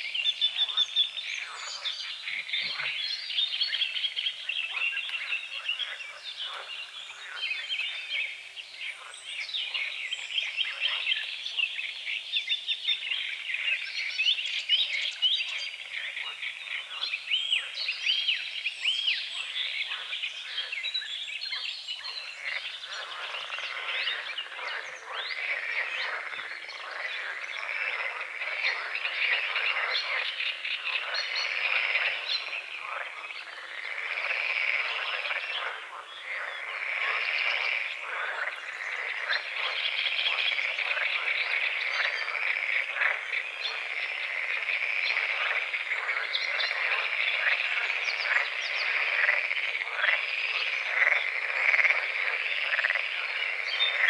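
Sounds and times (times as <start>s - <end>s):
birds singing: 0.0s - 54.0s
frogs croaking in chorus: 0.0s - 54.0s.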